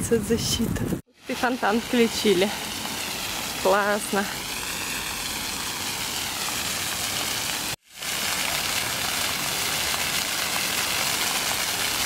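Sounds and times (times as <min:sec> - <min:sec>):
fountain water splashing: 0:01.2 - 0:12.0.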